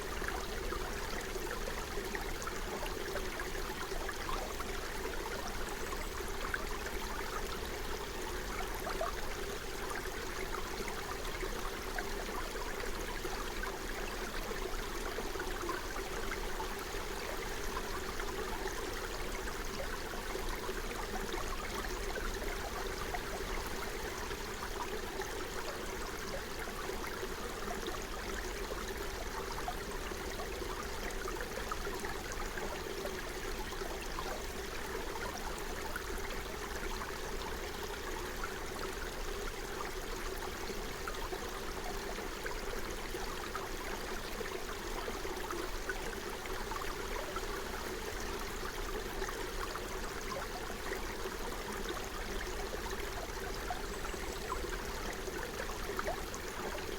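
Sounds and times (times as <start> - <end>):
stream flowing over stones: 0.0 - 56.9.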